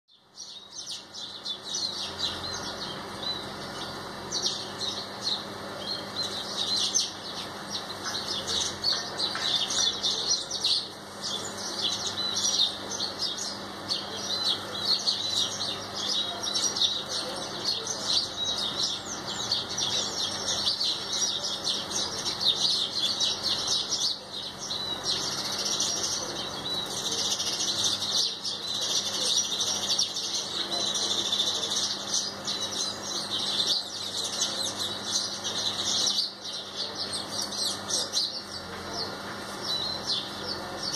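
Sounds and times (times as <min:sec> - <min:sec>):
flock of birds chirping: 0:00.1 - 0:40.9.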